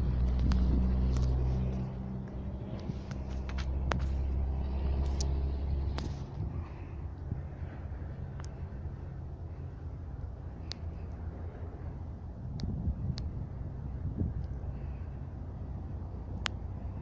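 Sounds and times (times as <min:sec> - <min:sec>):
diesel engine low hum: 0:00.0 - 0:17.0.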